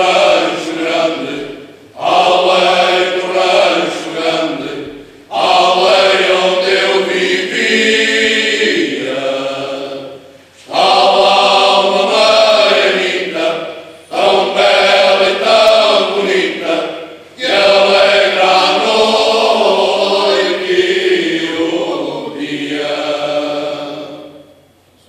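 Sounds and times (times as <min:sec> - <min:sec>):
unaccompanied choir singing: 0:00.0 - 0:24.9.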